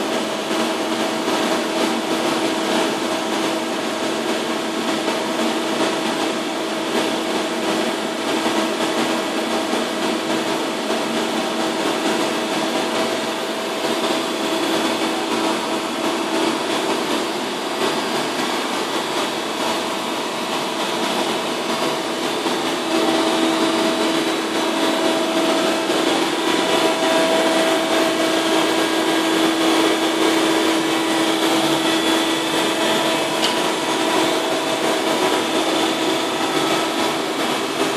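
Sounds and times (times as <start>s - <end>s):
welding machine hum and whine: 0.0s - 37.9s.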